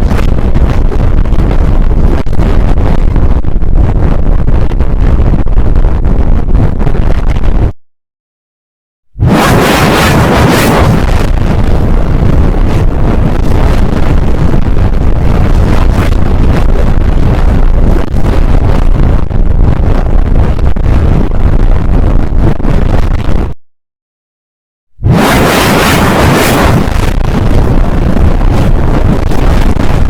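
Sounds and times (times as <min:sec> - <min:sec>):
loud distorted rumbling noise: 0:00.0 - 0:07.8, 0:09.1 - 0:23.6, 0:25.0 - 0:30.0.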